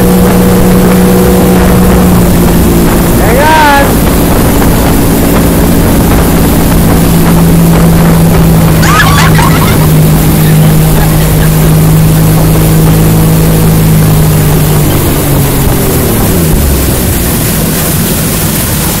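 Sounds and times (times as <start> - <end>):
speedboat engine running: 0.0 - 19.0
wind on microphone: 0.0 - 19.0.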